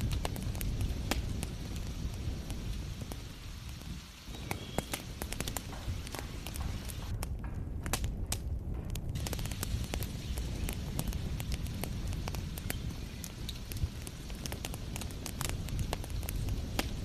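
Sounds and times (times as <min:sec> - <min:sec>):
heavy rain rumble: 0:00.0 - 0:07.3, 0:08.9 - 0:17.0
wood fire crackling and popping: 0:00.0 - 0:17.0.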